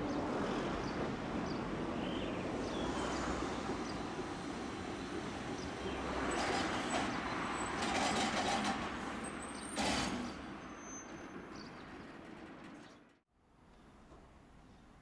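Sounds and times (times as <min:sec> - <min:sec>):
tram rumble: 0:00.0 - 0:13.2.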